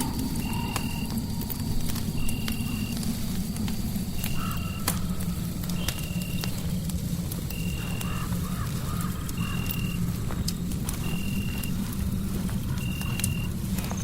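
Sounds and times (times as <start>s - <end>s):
faint wavering calls: 0.0s - 14.0s
fireplace crackling and popping: 0.0s - 14.0s
low rumbling noise: 0.0s - 14.0s.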